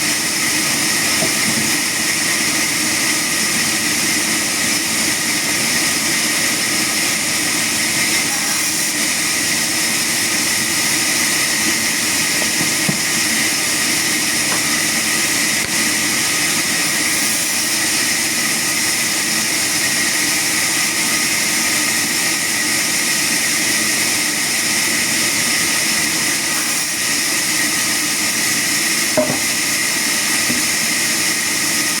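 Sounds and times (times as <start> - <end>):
sawmill machinery whine: 0.0 - 32.0.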